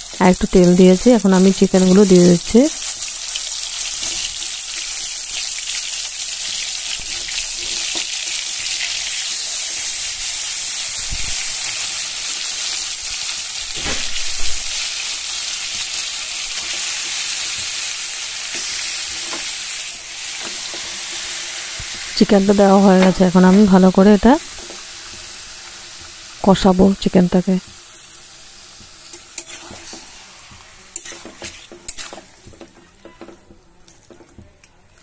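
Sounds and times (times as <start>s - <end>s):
chicken sizzling in hot oil: 0.0s - 33.1s.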